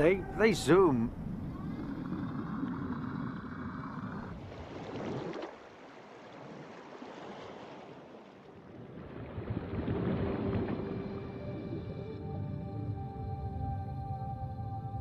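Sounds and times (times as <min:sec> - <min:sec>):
water rushing and splashing: 0:00.0 - 0:12.2.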